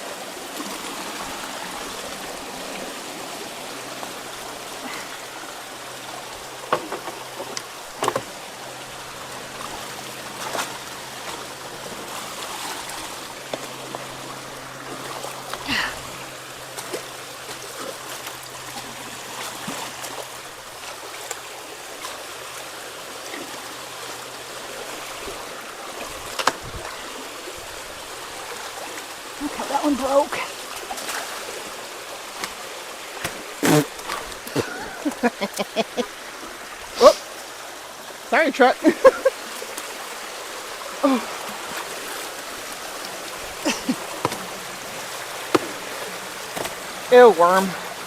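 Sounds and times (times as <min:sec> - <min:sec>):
water rushing through a culvert: 0:00.0 - 0:48.0
low steady hum: 0:00.1 - 0:48.0.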